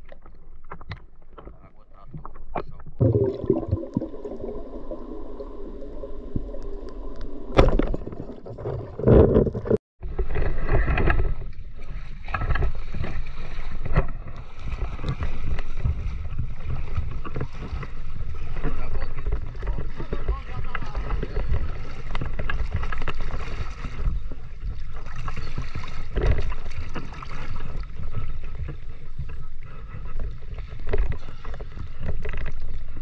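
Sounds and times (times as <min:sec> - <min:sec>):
water sloshing and splashing: 0:00.0 - 0:33.0.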